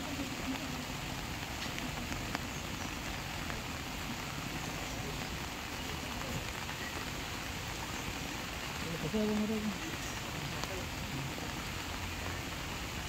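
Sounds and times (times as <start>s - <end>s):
faint indistinct voices: 0.0s - 13.0s
heavy rain: 0.0s - 13.0s.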